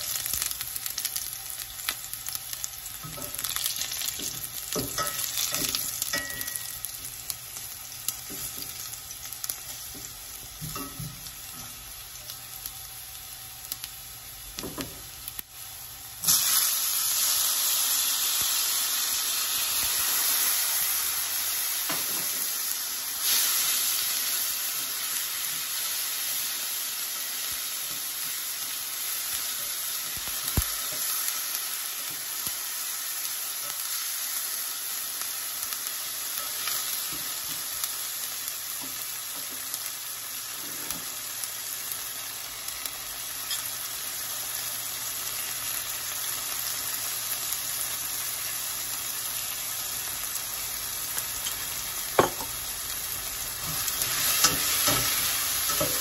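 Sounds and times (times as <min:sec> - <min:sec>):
garlic frying in oil: 0:00.0 - 0:56.0
loud sizzle of tomatoes: 0:00.0 - 0:56.0.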